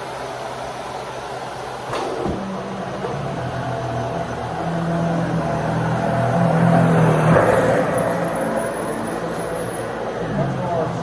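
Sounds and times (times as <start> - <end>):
vacuum cleaner running: 1.6 - 11.0.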